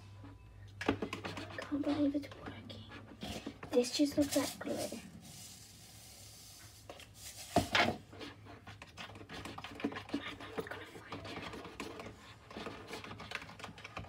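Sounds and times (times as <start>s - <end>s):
plastic spoon scraping in a cup: 0.8s - 14.0s.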